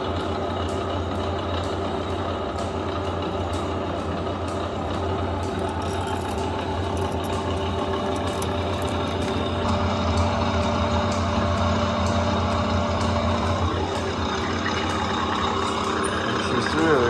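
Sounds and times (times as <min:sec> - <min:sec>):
drill press humming: 0:00.0 - 0:17.0.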